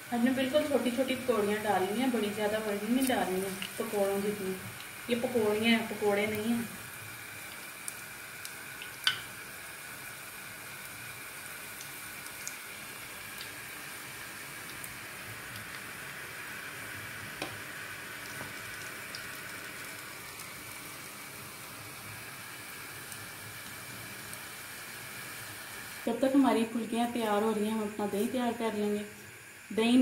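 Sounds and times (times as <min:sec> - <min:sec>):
deep-frying sizzle with pops: 0:00.0 - 0:30.0.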